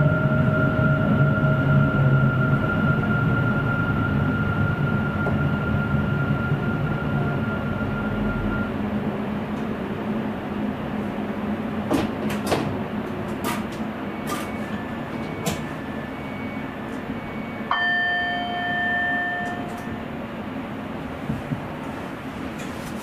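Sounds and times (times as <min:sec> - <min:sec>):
electric train rumble: 0:00.0 - 0:23.0.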